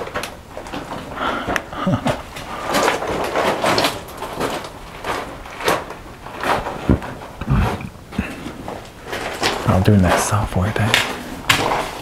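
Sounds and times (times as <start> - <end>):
close rustling: 0.0 - 12.0.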